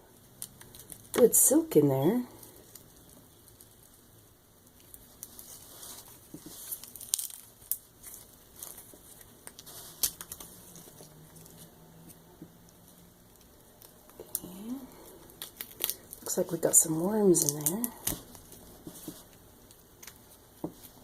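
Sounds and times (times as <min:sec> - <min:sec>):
corn husk crinkling and tearing: 0:00.1 - 0:21.0.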